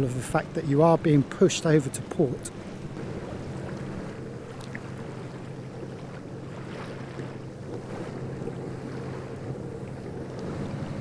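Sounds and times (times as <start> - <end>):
boat engine droning: 0.0 - 11.0
water washing past hull: 0.0 - 11.0
wind buffeting microphone: 0.0 - 11.0.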